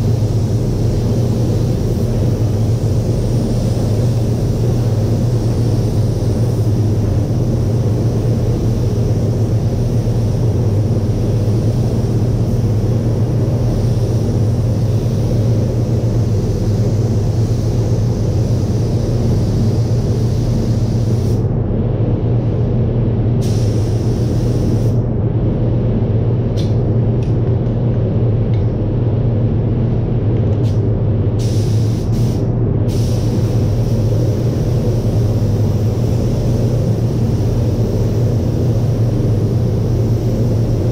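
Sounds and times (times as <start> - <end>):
ventilation fans rumbling: 0.0 - 40.9.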